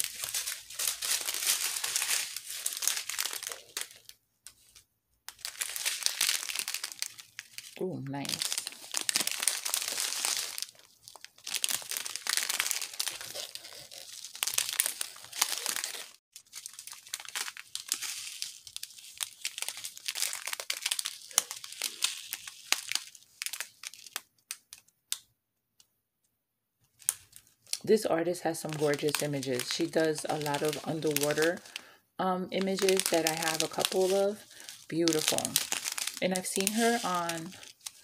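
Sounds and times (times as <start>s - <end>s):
plastic bags crinkling: 0.0s - 24.8s, 27.0s - 38.0s.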